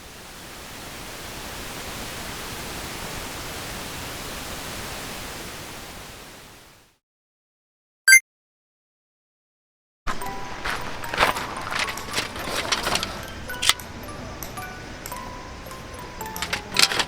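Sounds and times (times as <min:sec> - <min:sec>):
steady broadband hiss: 0:00.0 - 0:06.9, 0:10.1 - 0:17.0.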